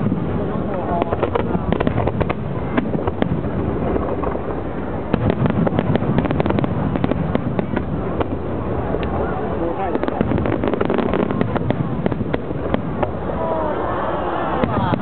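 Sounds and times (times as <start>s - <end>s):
continuous rumble: 0.0s - 15.0s
fireworks bangs and crackles: 0.0s - 15.0s.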